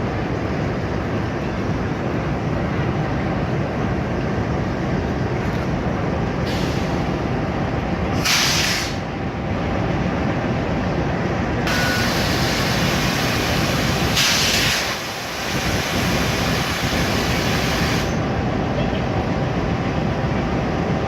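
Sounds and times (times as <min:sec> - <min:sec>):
train rumbling by: 0:00.0 - 0:21.0.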